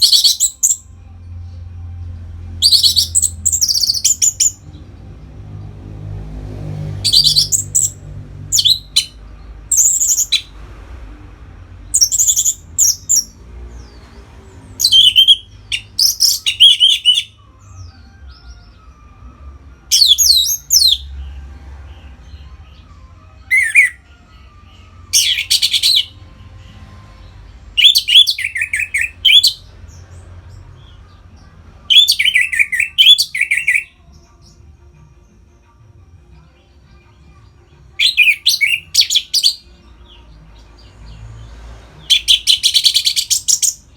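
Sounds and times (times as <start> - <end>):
thrush singing: 0.0 - 43.9.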